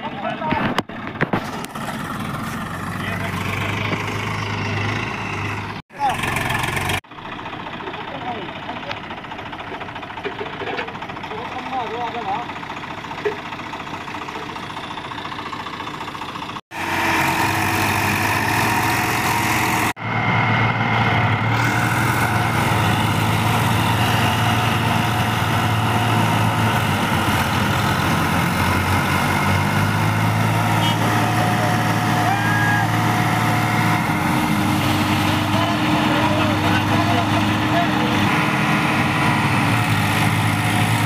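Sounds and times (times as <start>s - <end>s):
tractor diesel engines running: 0.0s - 41.0s.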